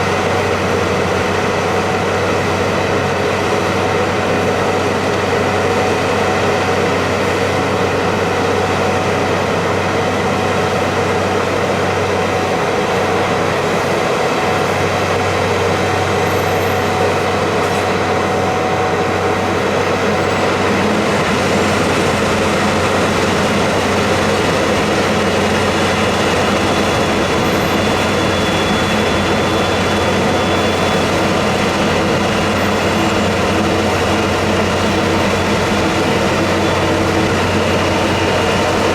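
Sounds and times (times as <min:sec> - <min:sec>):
heavy vehicle engine drone: 0:00.0 - 0:38.9.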